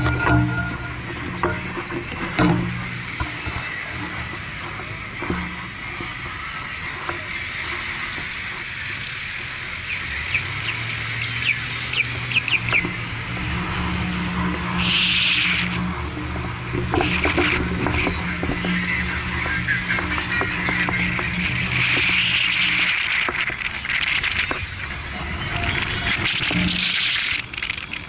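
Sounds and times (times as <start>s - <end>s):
car engine low hum: 0.0s - 28.0s.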